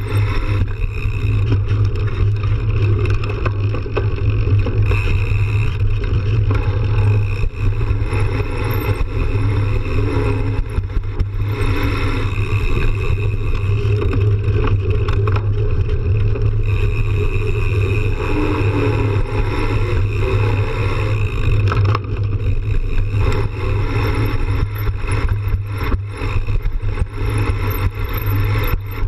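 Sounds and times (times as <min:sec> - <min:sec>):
bike rattles and knocks: 0:00.0 - 0:29.0
bike tyre noise: 0:00.0 - 0:29.0
wind rumble on microphone: 0:00.0 - 0:29.0.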